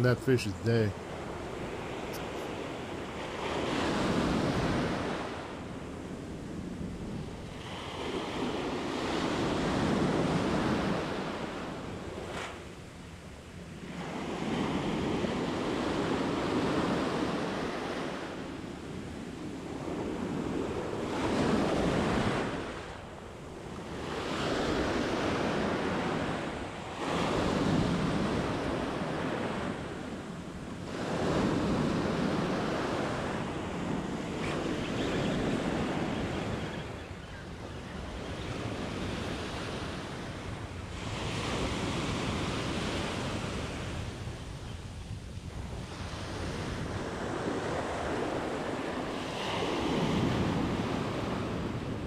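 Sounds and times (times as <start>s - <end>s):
ocean surf breaking on beach: 0.0s - 52.0s.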